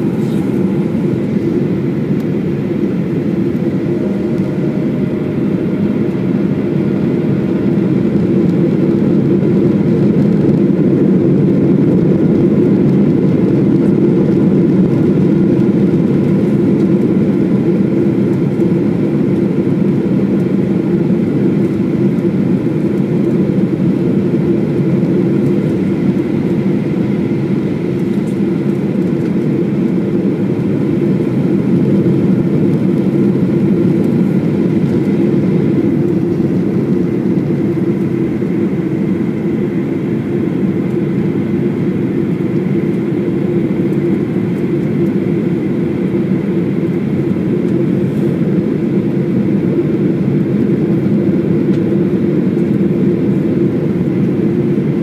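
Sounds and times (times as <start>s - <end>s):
faint steady whine: 0.0s - 55.0s
jet airliner cabin noise: 0.0s - 55.0s.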